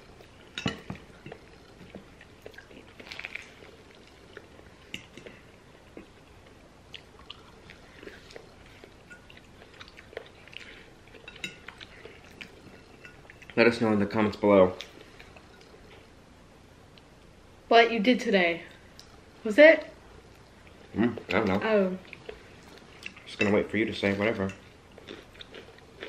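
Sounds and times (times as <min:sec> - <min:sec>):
people chewing food: 0:00.0 - 0:16.2, 0:20.1 - 0:26.0.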